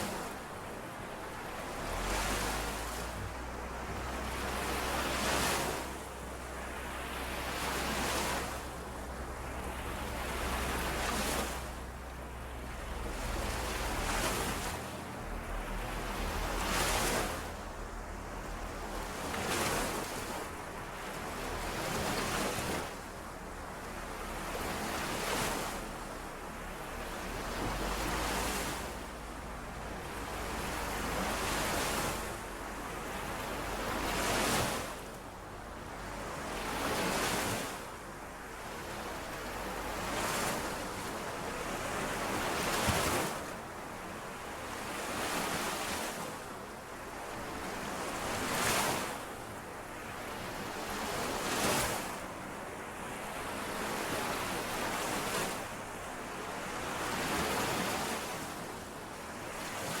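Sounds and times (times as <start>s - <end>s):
lake waves washing on shore: 0.0s - 60.0s.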